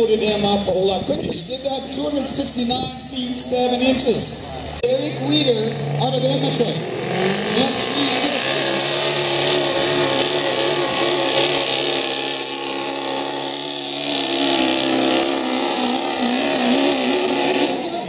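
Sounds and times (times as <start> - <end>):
diesel truck engine under load: 0.0 - 18.0.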